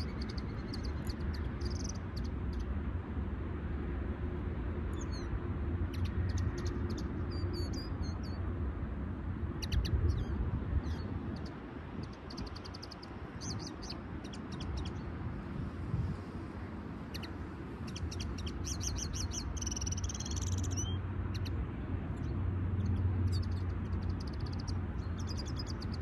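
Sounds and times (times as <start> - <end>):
songbirds chirping and twittering: 0.0 - 26.0.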